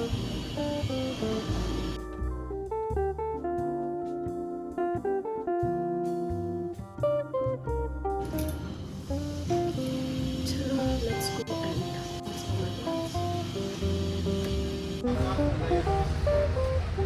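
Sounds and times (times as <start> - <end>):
bass line: 0.0 - 17.0
plucked guitar melody: 0.0 - 17.0.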